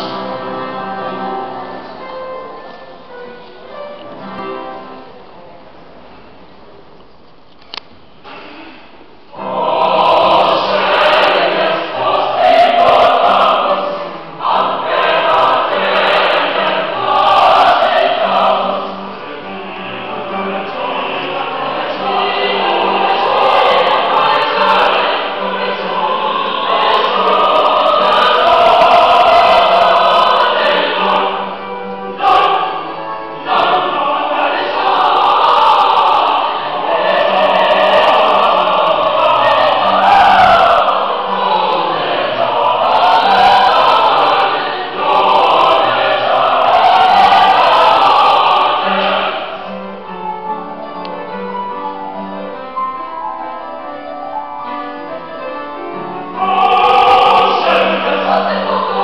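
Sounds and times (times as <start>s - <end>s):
mixed choir singing sacred music: 0.0s - 5.2s, 9.3s - 52.4s, 54.6s - 59.0s.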